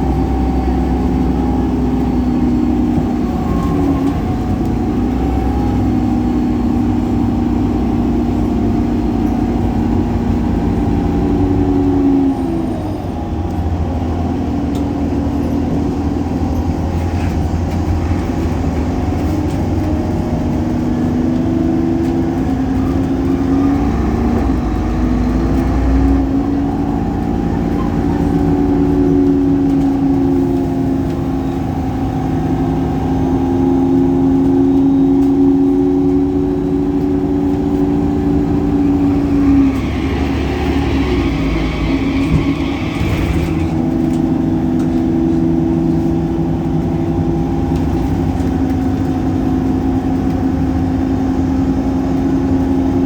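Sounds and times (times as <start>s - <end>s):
bus engine shifting gears: 0.0s - 53.0s
engine belt noise: 0.0s - 53.0s.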